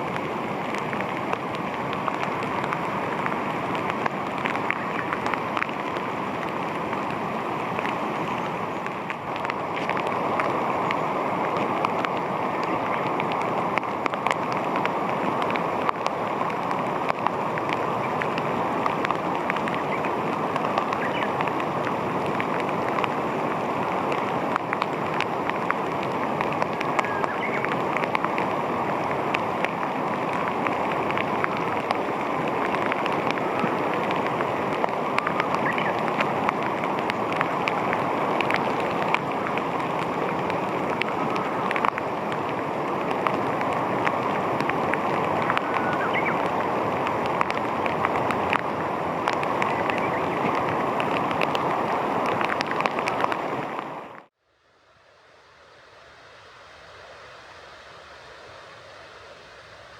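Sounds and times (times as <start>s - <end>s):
running water rushing: 0.0s - 59.9s
small ticks and splashes: 0.1s - 53.6s.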